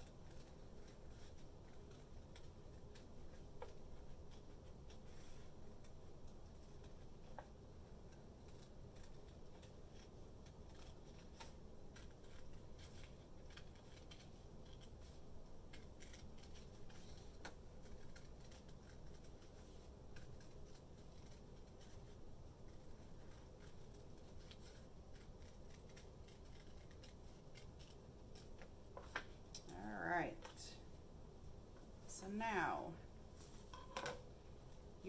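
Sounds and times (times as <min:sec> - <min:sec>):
scissors snipping paper: 0:00.0 - 0:29.7.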